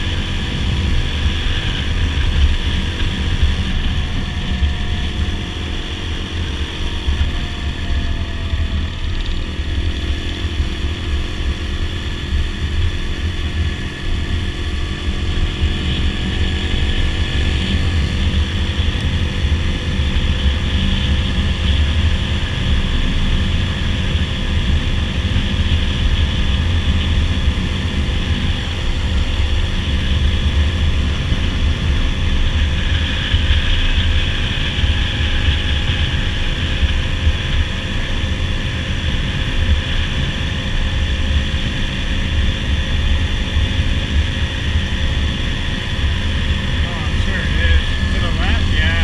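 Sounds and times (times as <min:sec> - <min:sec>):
dirt bike engine cruising: 0:00.0 - 0:49.0
wind rumble on microphone: 0:00.0 - 0:49.0.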